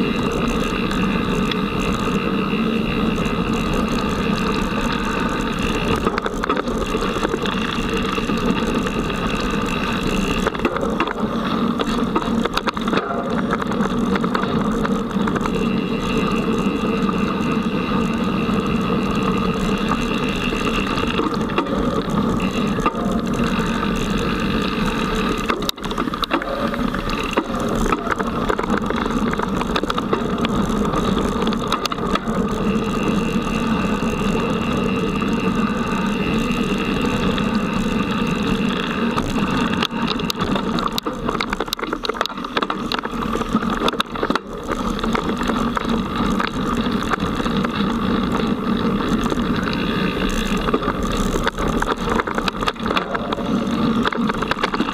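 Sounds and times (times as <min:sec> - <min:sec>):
bike rattling over rough ground: 0:00.0 - 0:54.9
bike tyre rumble: 0:00.0 - 0:54.9.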